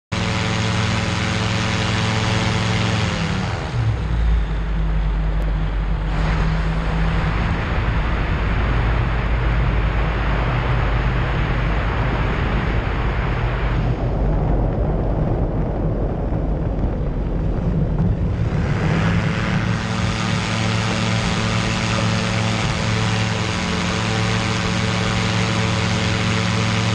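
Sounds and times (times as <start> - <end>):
aircraft engine and propeller: 0.0 - 26.9
wind rushing over microphone: 0.2 - 26.9.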